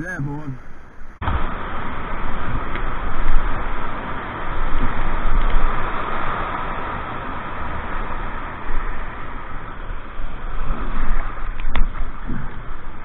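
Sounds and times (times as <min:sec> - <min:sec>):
water splashing on camera: 0:01.0 - 0:13.0
whitewater rushing: 0:01.2 - 0:13.0.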